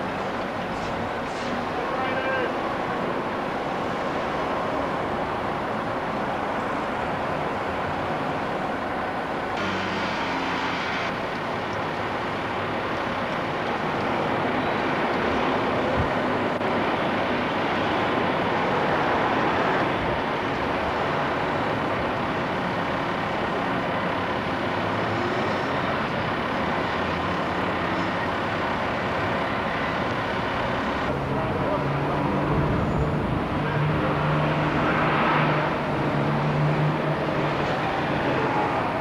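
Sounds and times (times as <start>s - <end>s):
crane engine running: 0.0s - 39.0s.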